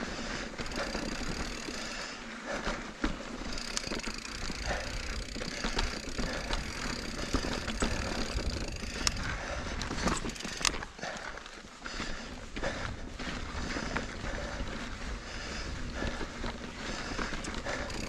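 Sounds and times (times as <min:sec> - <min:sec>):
bike chain and frame rattling: 0:00.0 - 0:18.0
rumble of bike tyres on trail: 0:00.0 - 0:18.0.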